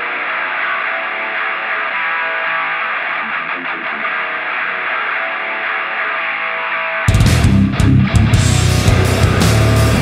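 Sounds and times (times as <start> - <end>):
distorted electric guitar chord: 0.0 - 10.0.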